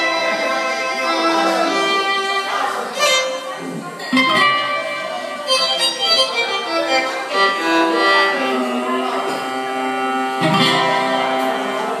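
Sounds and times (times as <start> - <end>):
bouzouki plucked melody: 0.0 - 12.0.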